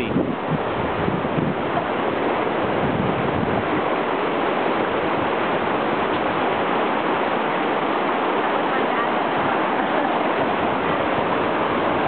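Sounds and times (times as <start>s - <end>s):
creek water rushing over waterfall: 0.0s - 12.0s.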